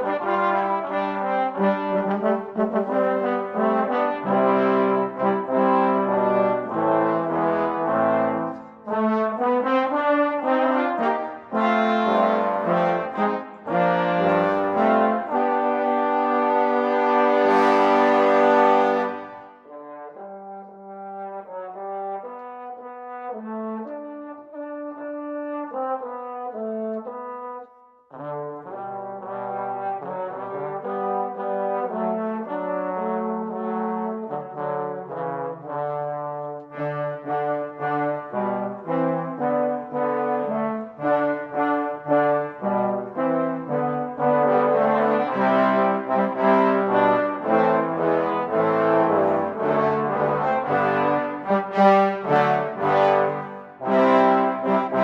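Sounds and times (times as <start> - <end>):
brass ensemble playing chords: 0.0 - 55.0.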